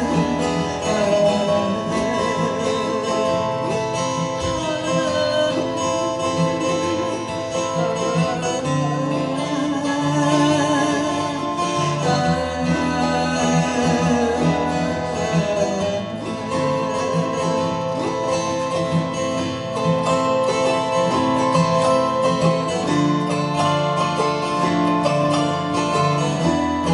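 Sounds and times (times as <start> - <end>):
acoustic guitar strumming: 0.0 - 26.9
autoharp: 0.0 - 26.9.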